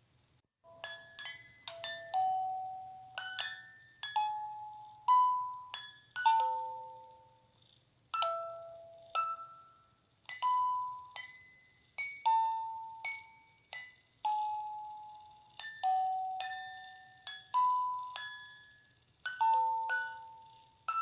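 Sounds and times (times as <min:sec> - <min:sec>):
lullaby on bell-like chimes: 0:00.7 - 0:07.6, 0:08.2 - 0:21.0.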